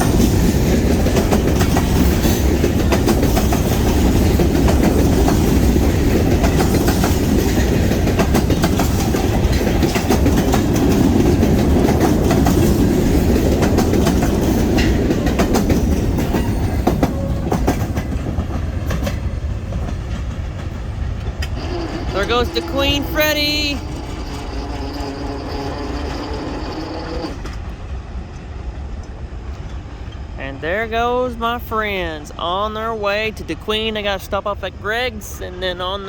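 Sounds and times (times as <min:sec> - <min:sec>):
wheels clicking over rail joints: 0:00.0 - 0:30.3
freight train rumbling past: 0:00.0 - 0:36.0.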